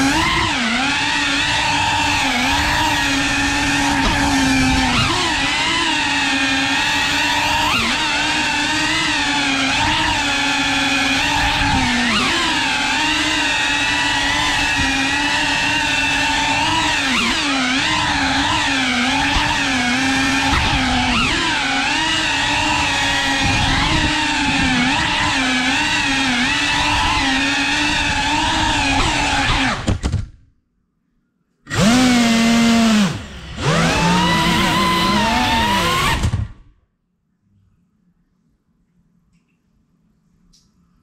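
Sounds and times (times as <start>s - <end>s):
drone motors whining: 0.0s - 30.4s, 31.7s - 36.7s.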